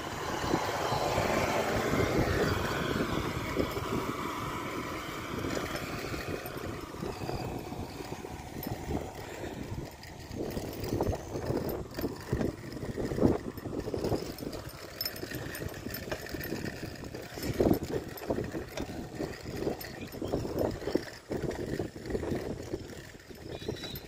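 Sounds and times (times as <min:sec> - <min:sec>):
bicycle tyres rumbling on pavement: 0:00.0 - 0:24.0
wind buffeting microphone: 0:00.0 - 0:24.0.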